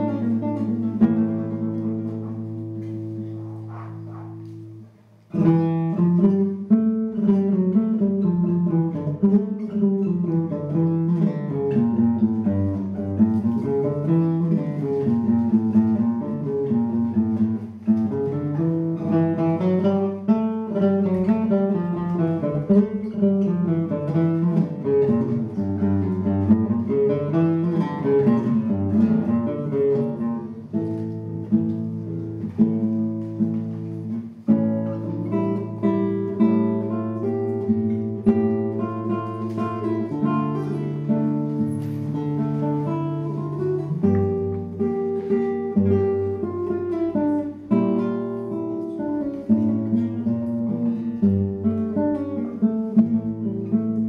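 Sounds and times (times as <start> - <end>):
classical guitar playing: 0.0 - 54.0.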